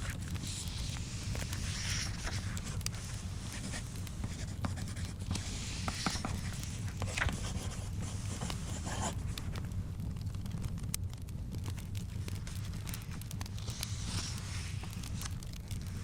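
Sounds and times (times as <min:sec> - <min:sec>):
small clicks and crackles: 0:00.0 - 0:16.0.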